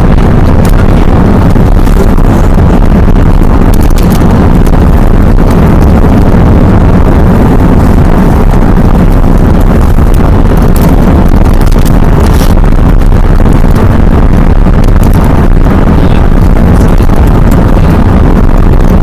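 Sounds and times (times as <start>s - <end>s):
road and engine noise inside car: 0.0s - 19.0s.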